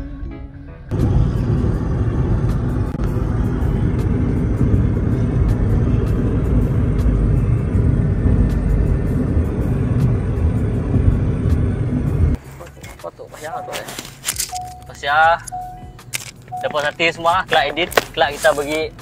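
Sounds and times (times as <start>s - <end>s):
car road noise rumble: 0.9s - 19.0s.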